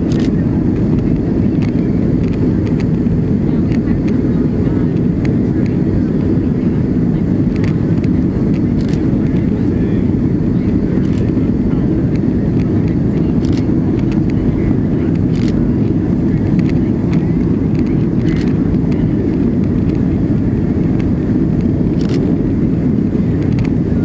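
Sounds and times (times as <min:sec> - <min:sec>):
airliner cabin roar: 0:00.0 - 0:24.0.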